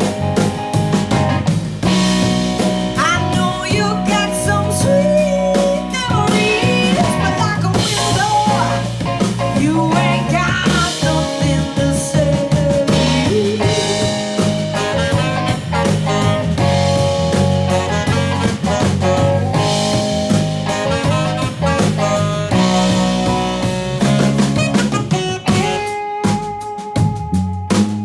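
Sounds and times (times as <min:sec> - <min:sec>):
lead instrument solo with bending notes: 0:00.0 - 0:28.0
live band playing soul-blues: 0:00.0 - 0:28.0.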